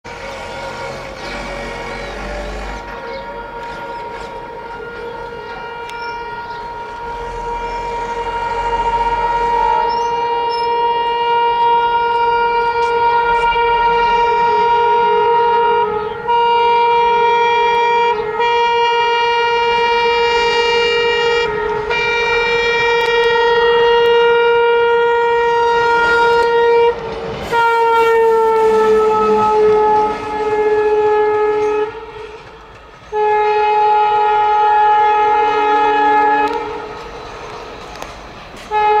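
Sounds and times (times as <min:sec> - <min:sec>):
diesel locomotive horn blasts: 0:00.0 - 0:39.0
locomotive rushing past: 0:00.1 - 0:16.0, 0:19.0 - 0:39.0.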